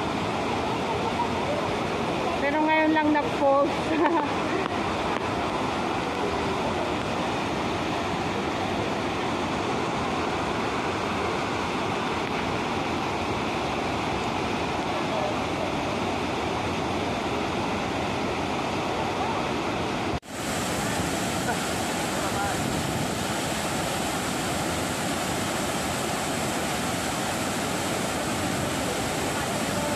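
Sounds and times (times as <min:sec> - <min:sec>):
waterfall rushing onto rocks: 0:00.0 - 0:29.9.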